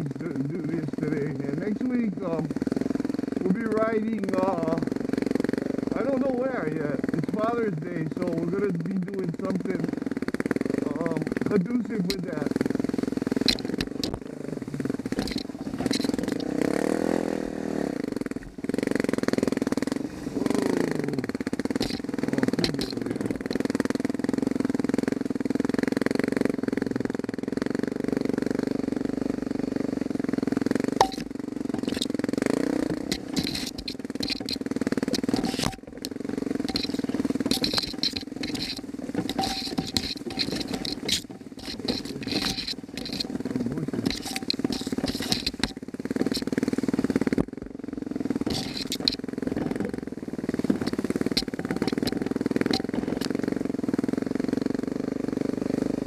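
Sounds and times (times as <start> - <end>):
bike rattling and clattering: 0.0 - 56.0
dirt bike engine revving: 0.0 - 56.0.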